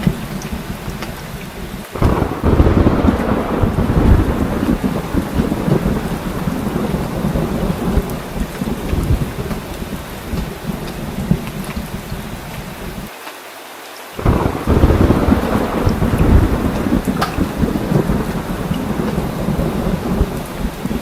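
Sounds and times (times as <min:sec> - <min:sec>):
low rumble of thunder: 0:00.0 - 0:13.1, 0:14.2 - 0:21.0
heavy rain: 0:00.0 - 0:21.0.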